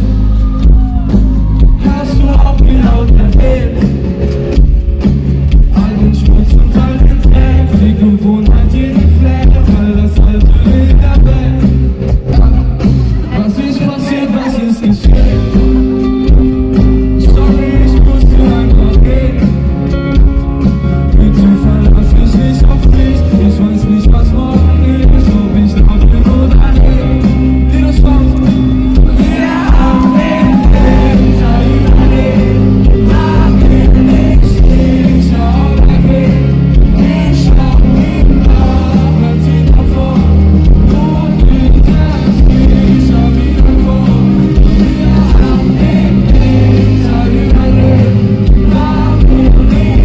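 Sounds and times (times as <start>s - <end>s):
sung vocals: 0.0s - 4.6s, 5.5s - 50.0s
live pop-rock band playing: 0.0s - 50.0s.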